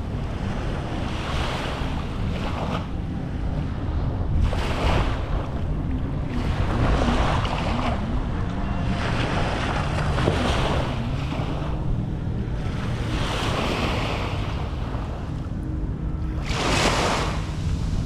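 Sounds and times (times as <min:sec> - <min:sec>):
waves washing on beach: 0:00.0 - 0:18.0
wind rumbling on microphone: 0:00.0 - 0:18.0.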